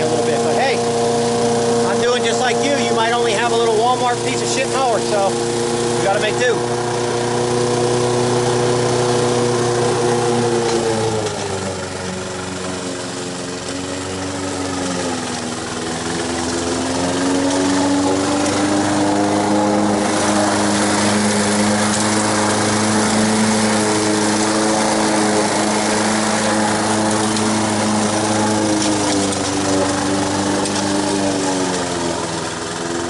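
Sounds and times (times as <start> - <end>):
grass cutting hiss: 0.0 - 33.0
lawn mower engine running: 0.0 - 33.0.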